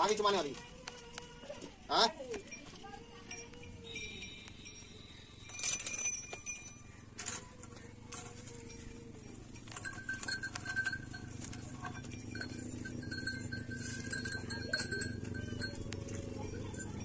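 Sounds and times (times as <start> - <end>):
clinks and knocks: 2.4 - 17.0.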